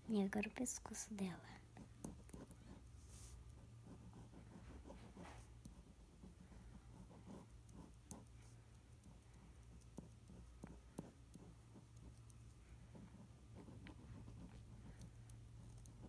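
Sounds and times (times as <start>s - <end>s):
low steady hum: 0.0s - 16.0s
ballpoint pen scratching on paper: 1.8s - 16.0s.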